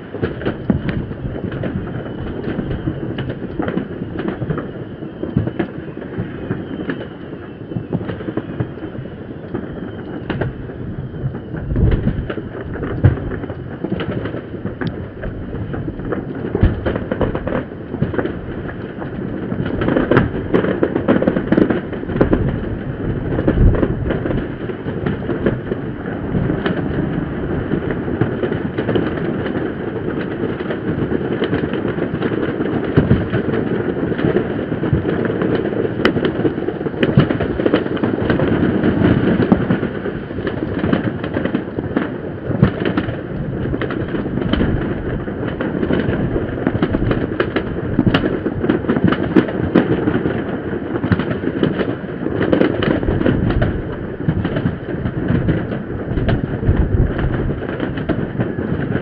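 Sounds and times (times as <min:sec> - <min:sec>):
fireworks bangs and crackles: 0:00.0 - 0:59.0
sharp firework pops: 0:00.0 - 0:59.0.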